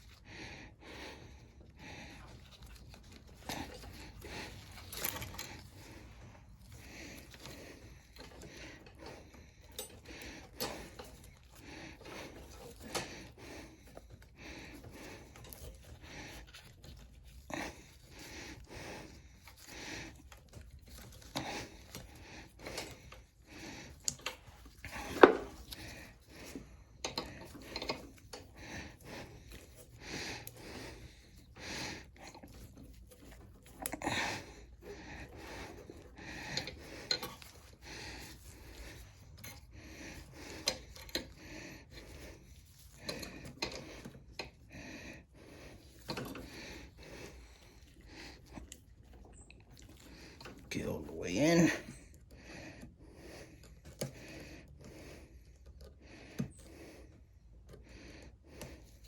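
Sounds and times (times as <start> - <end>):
breathing close to microphone: 0.0 - 59.0.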